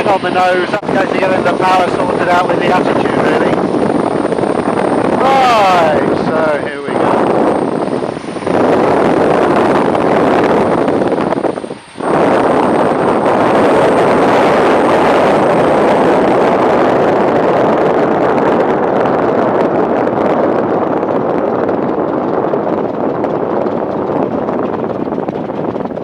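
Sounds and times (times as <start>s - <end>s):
airflow rushing: 0.0s - 26.0s
biplane engine noise: 0.0s - 26.0s.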